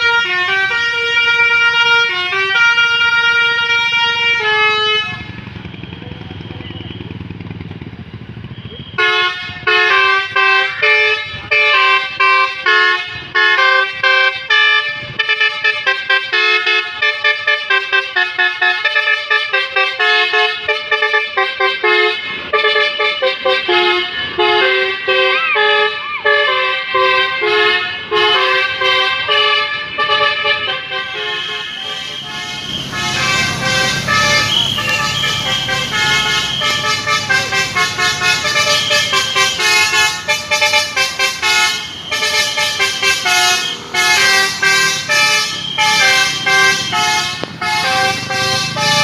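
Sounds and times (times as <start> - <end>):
multi-tone musical bus horn: 0.0 - 5.8, 8.6 - 49.0.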